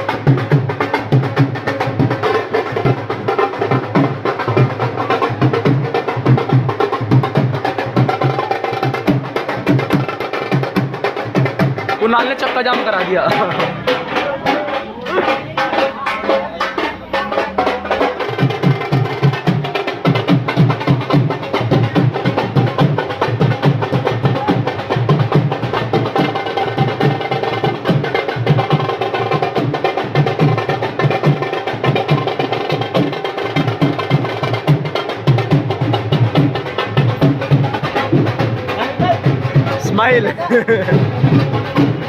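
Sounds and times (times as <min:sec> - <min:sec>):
music with fast percussion beat: 0:00.0 - 0:42.0.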